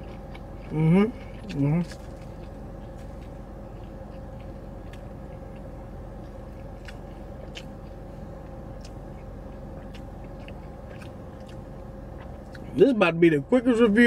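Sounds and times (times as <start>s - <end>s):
person chewing: 0.0s - 12.8s
car cabin hum: 0.0s - 14.0s.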